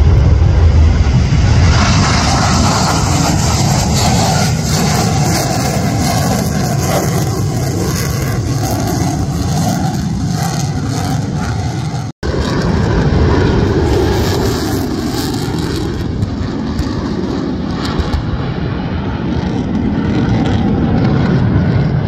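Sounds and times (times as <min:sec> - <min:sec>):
jet engine deep rumble: 0:00.0 - 0:22.0.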